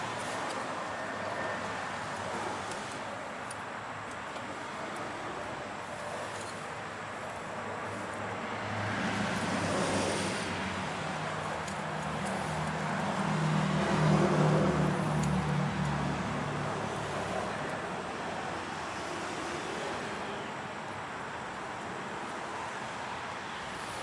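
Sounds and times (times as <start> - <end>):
passing motor vehicle: 3.9 - 24.0.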